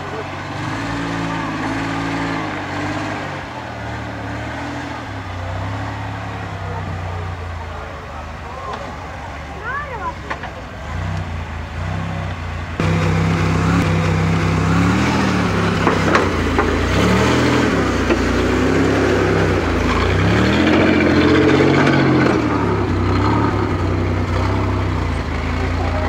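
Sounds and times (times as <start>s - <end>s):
buggy engine revving under load: 0.0s - 26.0s.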